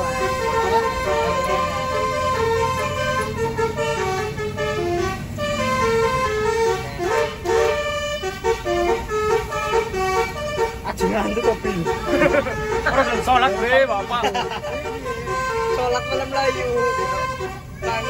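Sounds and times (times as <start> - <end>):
bus engine hum: 0.0 - 18.0
bus musical air horn tune: 0.0 - 18.0.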